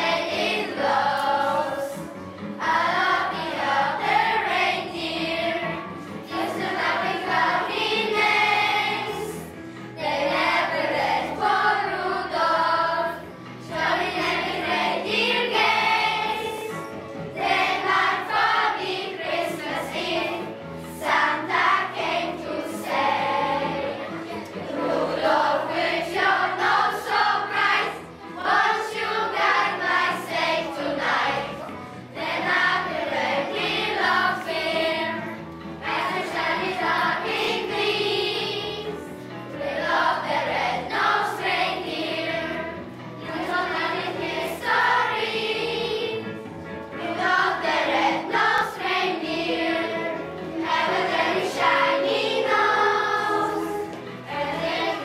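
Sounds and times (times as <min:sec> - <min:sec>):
children singing: 0:00.0 - 0:46.4, 0:47.0 - 0:55.0
music accompaniment: 0:00.0 - 0:55.0.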